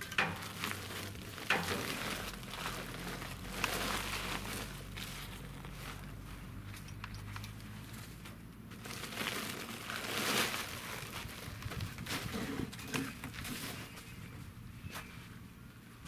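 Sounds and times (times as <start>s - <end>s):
plastic sack crinkling: 0.0s - 6.9s, 7.8s - 14.1s.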